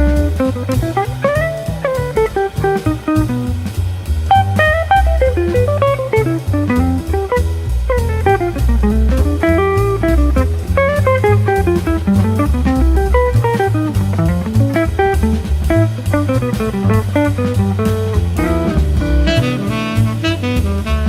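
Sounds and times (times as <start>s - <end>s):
bass: 0.0s - 21.0s
drums: 0.0s - 21.0s
jazzy guitar run: 0.0s - 21.0s.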